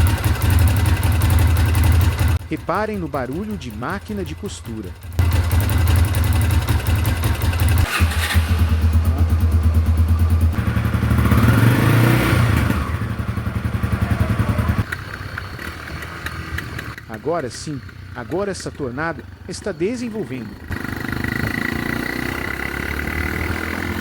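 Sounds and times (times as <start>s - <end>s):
motorcycle engine running hard: 0.0s - 24.0s.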